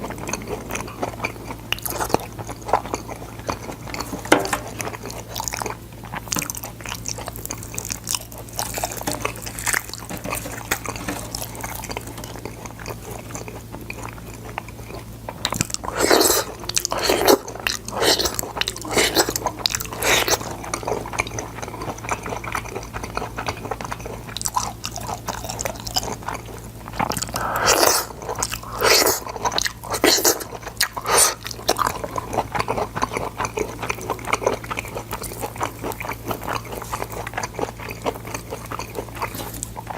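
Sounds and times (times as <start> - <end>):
chewing and biting beans: 0.0 - 39.9
steady low hum: 0.0 - 39.9.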